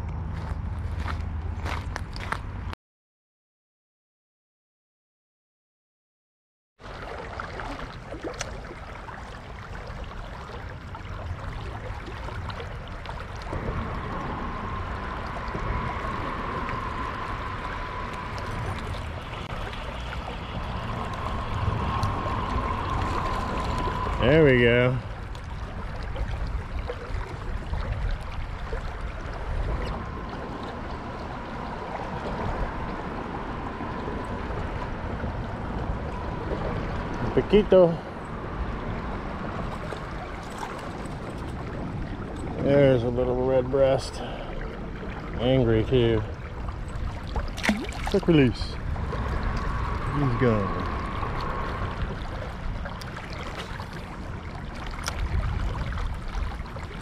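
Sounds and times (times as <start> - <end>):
creek water rippling: 6.8 - 57.0
low rumble: 10.1 - 57.0.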